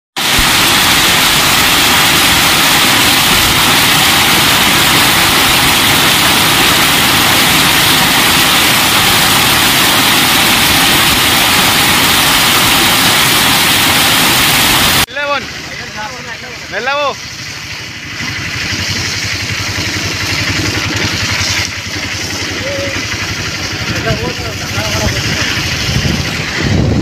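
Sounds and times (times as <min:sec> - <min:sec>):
heavy rain and hail: 0:00.2 - 0:15.1, 0:15.8 - 0:27.0.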